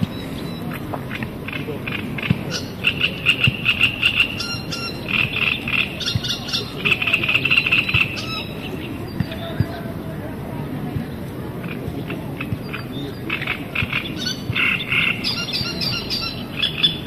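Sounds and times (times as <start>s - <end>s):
frogs croaking: 0.0s - 8.8s, 11.6s - 17.0s.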